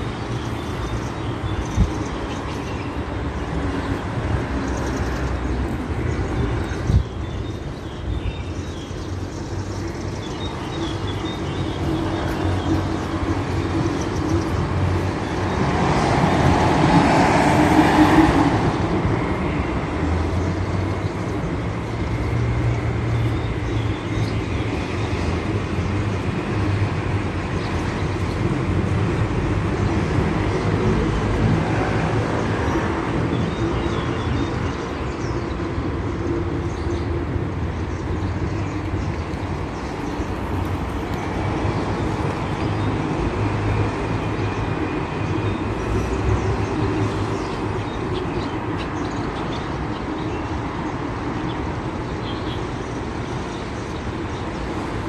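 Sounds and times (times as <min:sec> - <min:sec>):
low rumble of vehicle traffic: 0:00.0 - 0:55.0.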